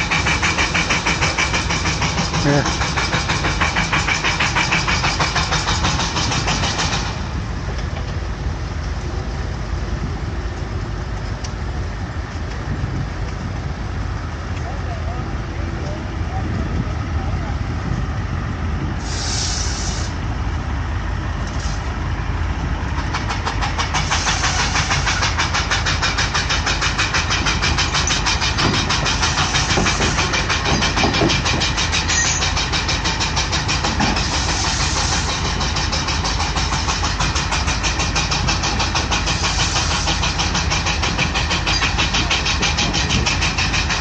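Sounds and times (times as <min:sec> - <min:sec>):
steam engine exhaust chuffs: 0:00.0 - 0:44.0.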